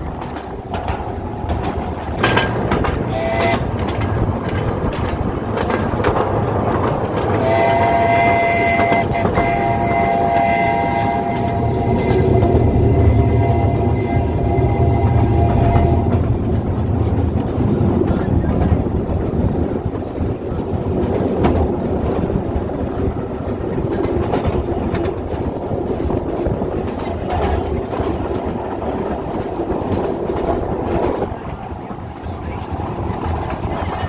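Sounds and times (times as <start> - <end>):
train carriage rumble and rattle: 0.0 - 34.0
wheels clicking over rail joints: 0.0 - 34.0.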